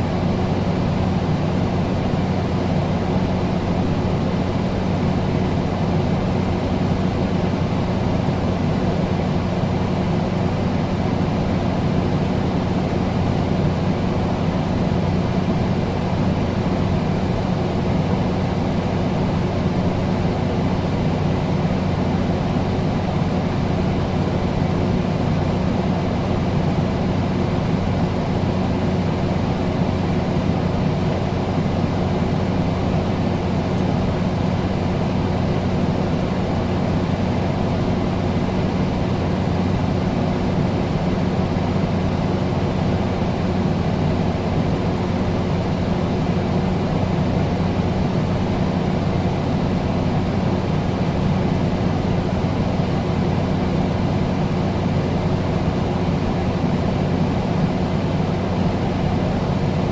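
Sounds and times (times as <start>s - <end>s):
air conditioner running: 0.0s - 59.9s.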